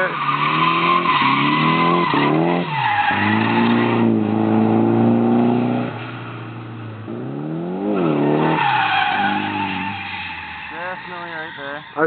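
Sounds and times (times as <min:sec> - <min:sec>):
drift car engine revving: 0:00.0 - 0:12.0.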